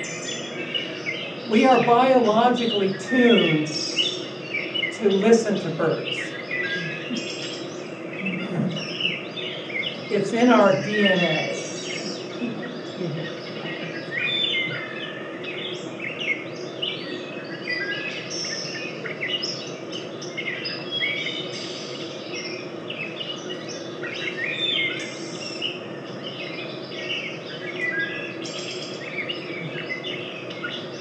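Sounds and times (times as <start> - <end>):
birds singing and calling: 0.0 - 31.0
steady low hum: 0.0 - 31.0.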